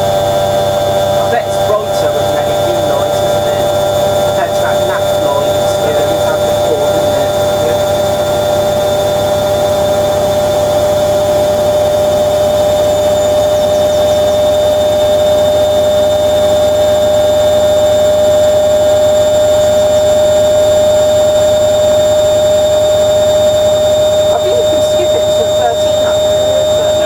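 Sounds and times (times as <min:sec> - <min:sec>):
washing machine spinning: 0:00.0 - 0:27.0.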